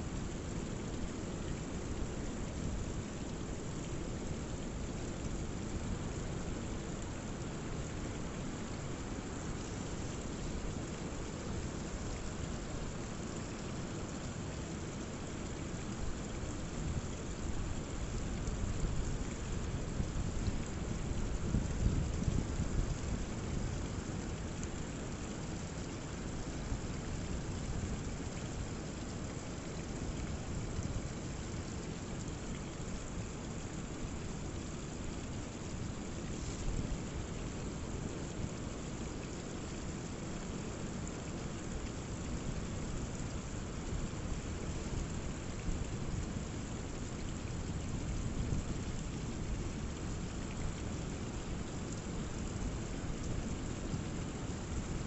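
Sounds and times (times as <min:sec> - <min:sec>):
water running down rock: 0:00.8 - 0:55.0.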